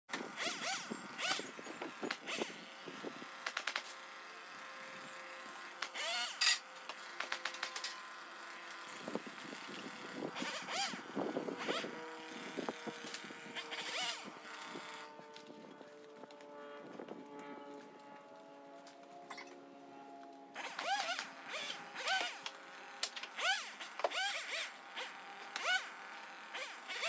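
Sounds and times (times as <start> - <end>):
chainsaw revving: 0.1 - 15.5, 20.6 - 27.0.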